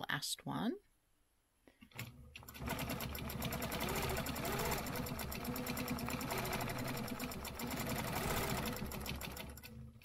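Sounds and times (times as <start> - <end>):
quilting machine stitching: 1.9 - 10.0.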